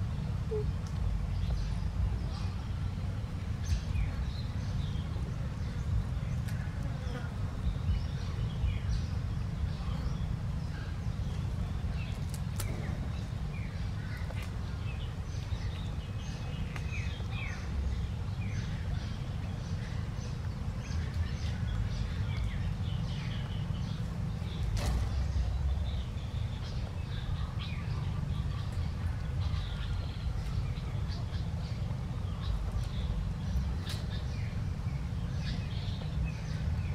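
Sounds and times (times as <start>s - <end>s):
birds chirping: 0.0s - 36.9s
steady low rumble: 0.0s - 36.9s.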